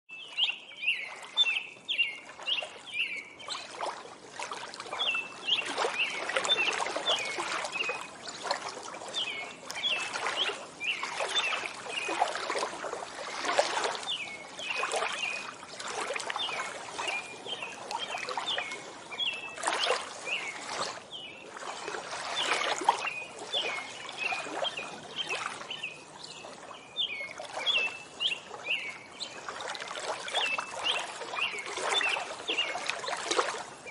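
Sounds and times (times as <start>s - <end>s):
songbirds chirping: 0.1s - 33.9s
water lapping at shore: 0.1s - 33.9s.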